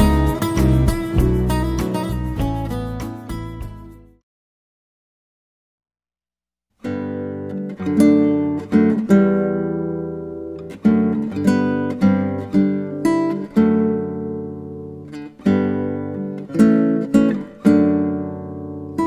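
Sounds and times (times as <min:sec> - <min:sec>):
acoustic guitar strummed chords: 0:00.0 - 0:04.2, 0:06.8 - 0:19.0.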